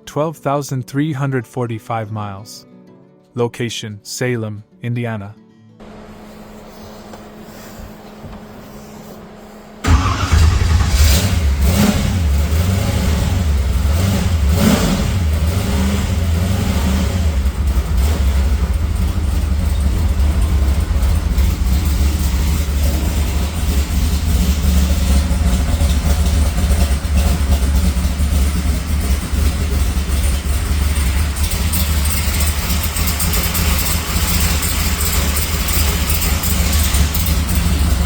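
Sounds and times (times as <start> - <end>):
v eight engine idling: 5.8 - 38.0.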